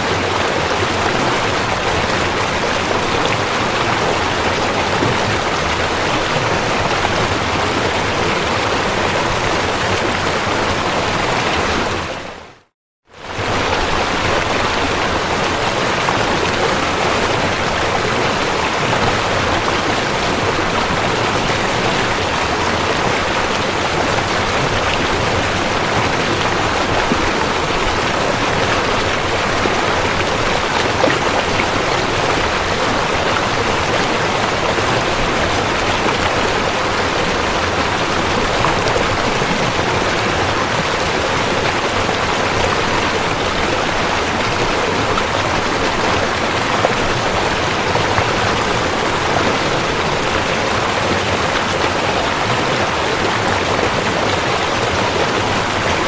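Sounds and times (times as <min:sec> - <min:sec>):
rushing river water: 0:00.0 - 0:56.0.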